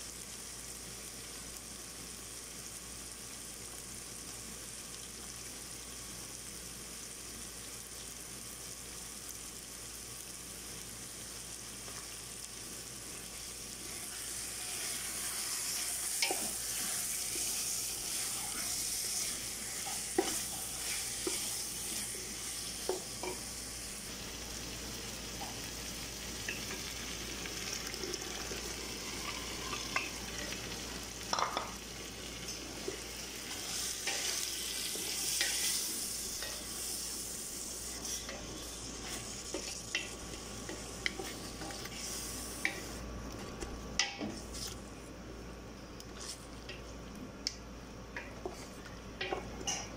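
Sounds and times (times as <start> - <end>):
food sizzling in oil: 0.0 - 43.2.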